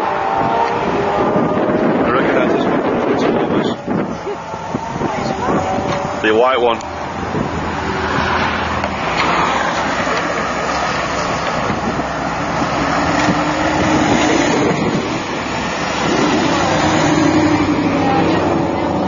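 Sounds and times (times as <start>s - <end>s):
car engine pulling away: 0.0s - 19.0s.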